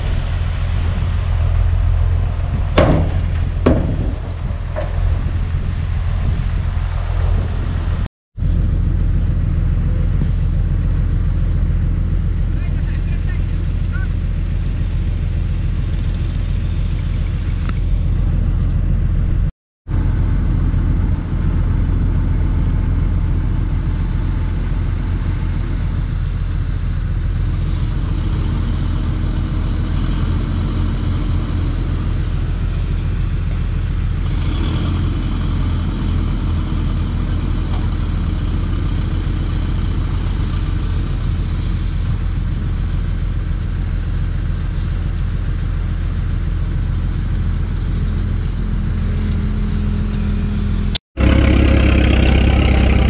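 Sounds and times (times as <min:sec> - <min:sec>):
heavy diesel machinery drone: 0:00.0 - 0:53.0.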